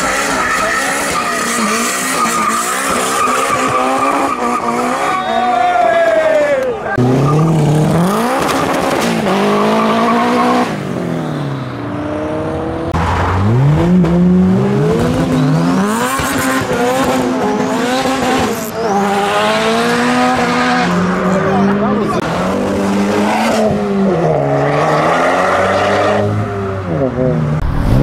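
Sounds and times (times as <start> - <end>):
car engines revving hard: 0.0 - 5.7, 6.9 - 28.0.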